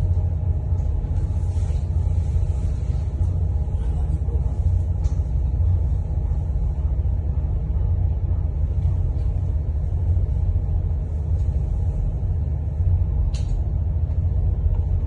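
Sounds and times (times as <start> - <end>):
boat diesel engine rumbling: 0.0 - 15.0.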